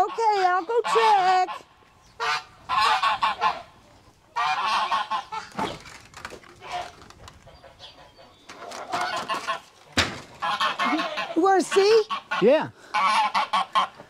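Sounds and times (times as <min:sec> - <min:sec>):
geese honking: 0:00.0 - 0:05.7, 0:06.6 - 0:14.0.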